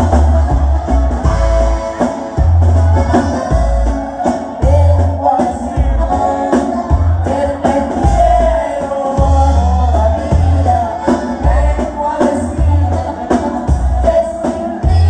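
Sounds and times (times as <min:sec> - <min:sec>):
accordion: 0:00.0 - 0:15.0
acoustic guitar: 0:00.0 - 0:15.0
drum kit: 0:00.0 - 0:15.0
electric bass: 0:00.0 - 0:15.0
man singing: 0:01.2 - 0:15.0.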